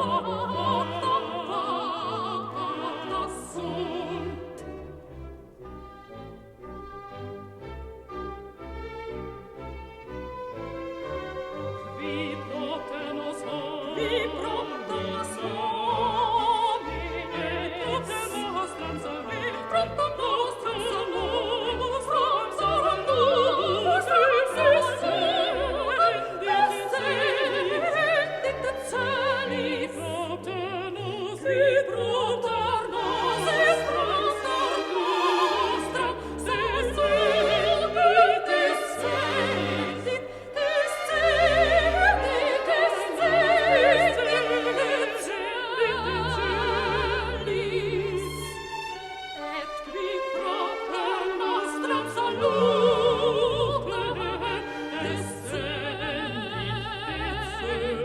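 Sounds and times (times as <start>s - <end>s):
operatic singing with vibrato: 0.0s - 58.0s
orchestral accompaniment: 0.0s - 58.0s.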